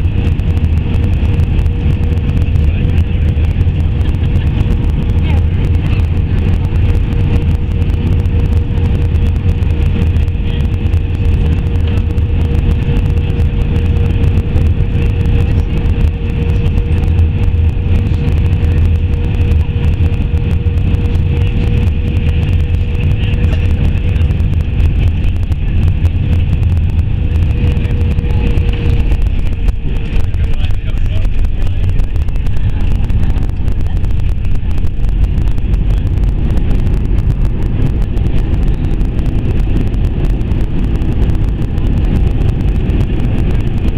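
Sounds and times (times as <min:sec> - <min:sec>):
engine rumble and rushing air: 0:00.0 - 0:43.9
engine whine: 0:00.0 - 0:43.9.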